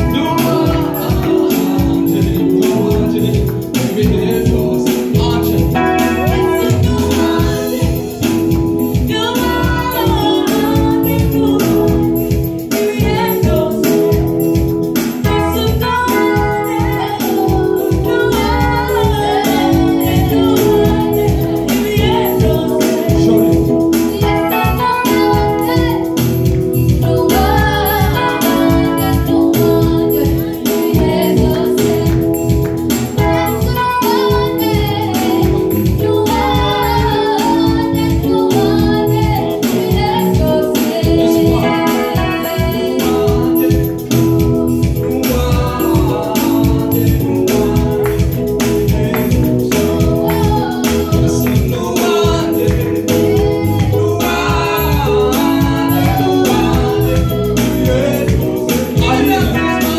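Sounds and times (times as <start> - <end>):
electronic keyboard chords: 0.0 - 59.9
group singing gospel: 0.0 - 59.9
steady beat: 0.0 - 59.9.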